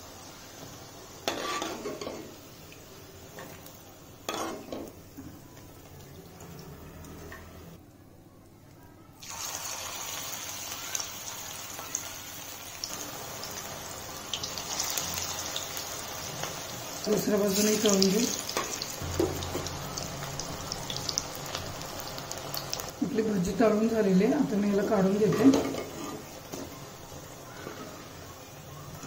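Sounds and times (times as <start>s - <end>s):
hot oil sizzling: 0.0s - 7.8s, 9.2s - 29.0s.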